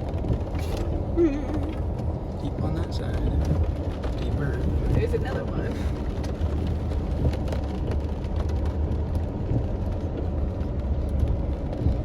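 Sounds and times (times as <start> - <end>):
vehicle driving on dirt road: 0.0 - 12.0.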